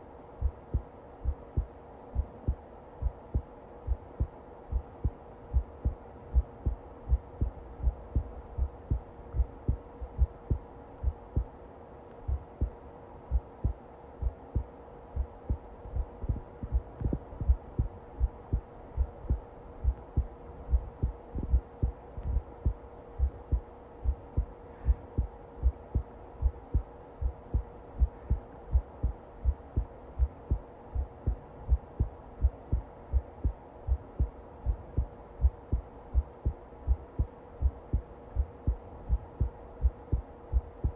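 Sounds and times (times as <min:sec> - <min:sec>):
faint steady hum: 0:00.0 - 0:40.9
heartbeat thumps: 0:00.4 - 0:11.5, 0:12.3 - 0:40.9.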